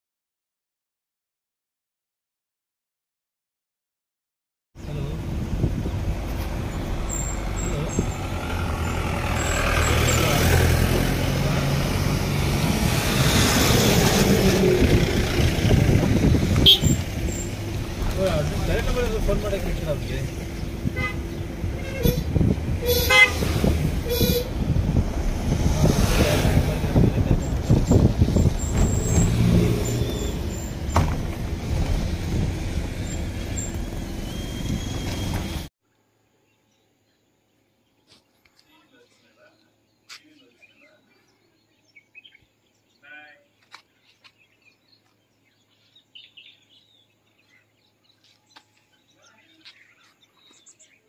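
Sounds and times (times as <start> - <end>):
vehicle engine and road noise: 4.8 - 35.7, 38.0 - 51.0.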